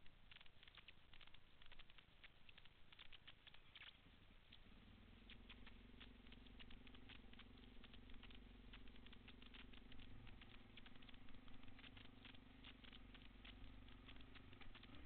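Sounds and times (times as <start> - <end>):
small irregular clicks and taps: 0.0 - 15.0
dirt bike engine idling: 0.6 - 15.0.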